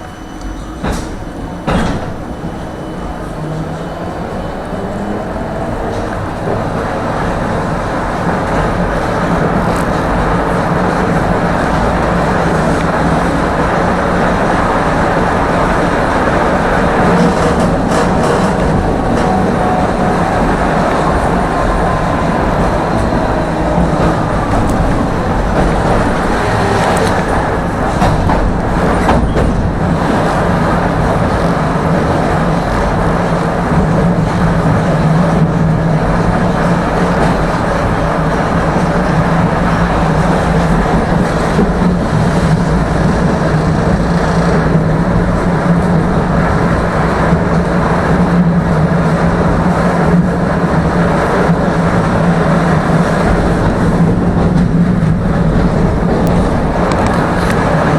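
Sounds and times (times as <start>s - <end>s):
tram rumbling on rails: 0.0s - 57.9s.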